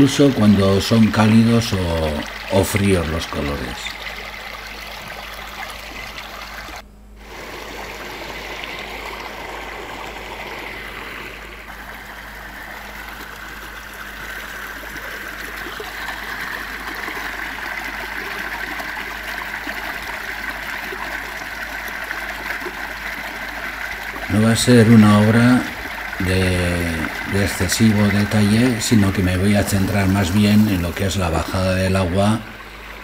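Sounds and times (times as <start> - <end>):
waterfall pouring into stream: 0.0 - 33.0.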